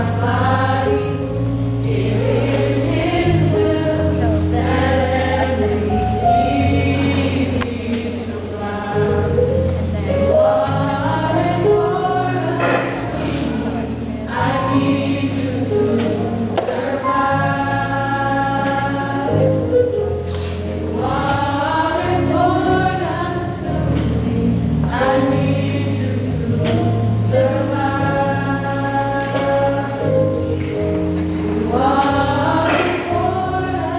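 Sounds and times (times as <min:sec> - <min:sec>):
choir singing held chords: 0:00.0 - 0:33.9.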